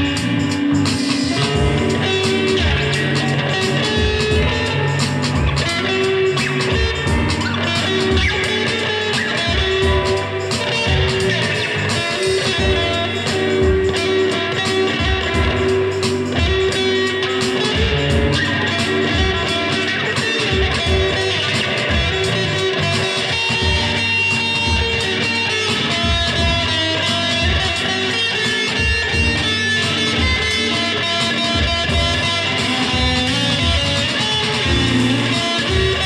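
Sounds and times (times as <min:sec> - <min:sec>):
electric guitar playing: 0:00.0 - 0:36.0.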